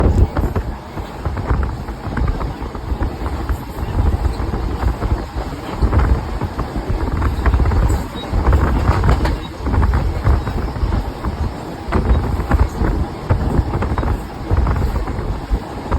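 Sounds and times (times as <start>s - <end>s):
train rattling and clattering: 0.0s - 15.9s
train rumbling: 0.0s - 15.9s.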